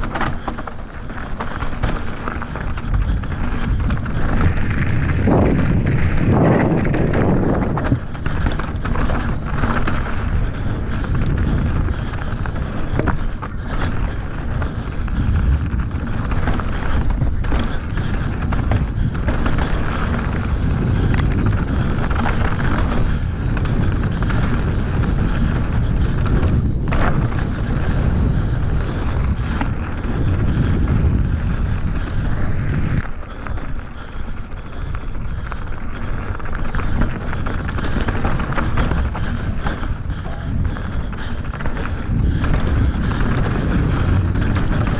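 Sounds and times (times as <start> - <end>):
bike clicks and knocks: 0.0 - 44.9
tyres rumbling over rocky trail: 0.0 - 44.9
wind buffeting microphone: 0.0 - 44.9.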